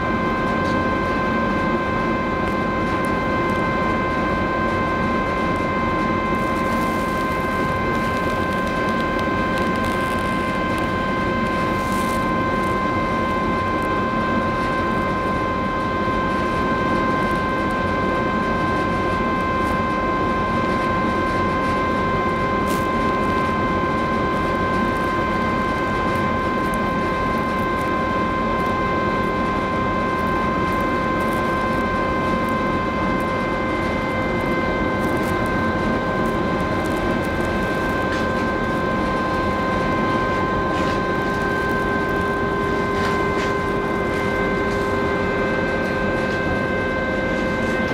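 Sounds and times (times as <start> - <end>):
machinery whine: 0.0 - 47.9.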